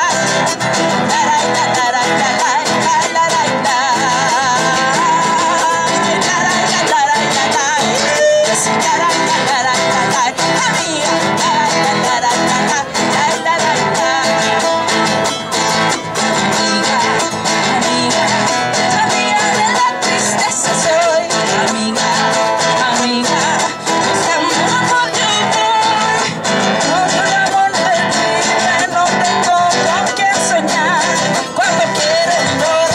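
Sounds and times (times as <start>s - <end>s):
strummed acoustic guitar: 0.0s - 32.9s
women singing: 0.0s - 32.9s.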